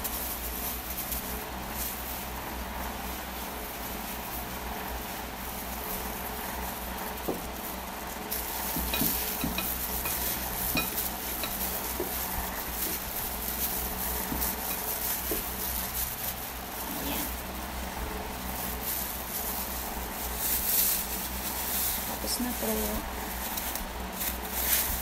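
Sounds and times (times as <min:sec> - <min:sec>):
plastic gloves crinkling: 0:00.0 - 0:25.0.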